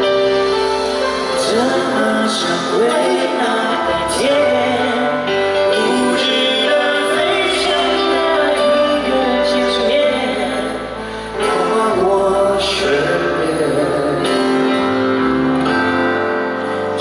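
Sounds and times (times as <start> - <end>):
live band playing pop music: 0.0 - 17.0.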